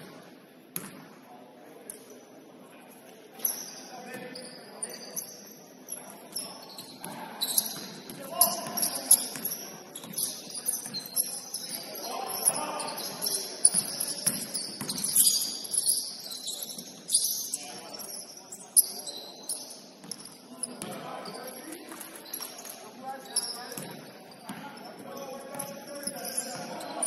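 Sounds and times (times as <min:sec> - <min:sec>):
players' voices: 0:00.1 - 0:27.0
sneakers squeaking on court: 0:03.4 - 0:27.0.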